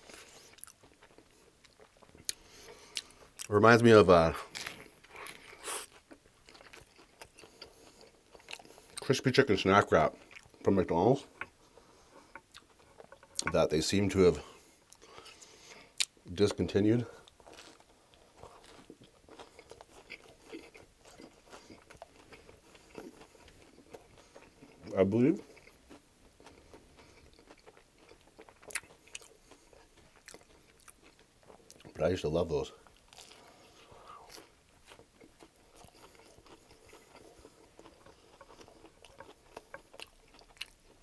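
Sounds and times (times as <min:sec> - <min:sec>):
chewing a wrap: 0:00.0 - 0:41.0.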